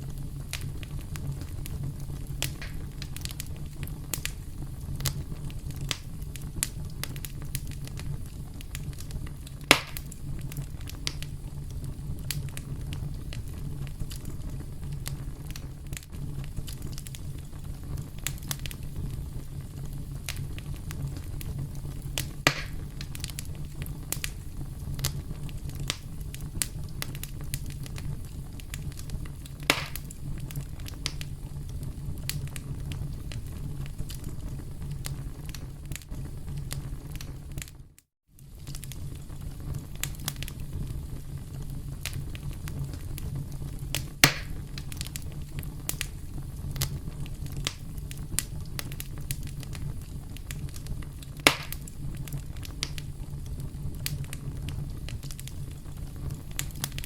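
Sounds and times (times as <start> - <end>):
campfire crackles and pops: 0.0 - 57.0
campfire flames rumbling: 0.0 - 57.0.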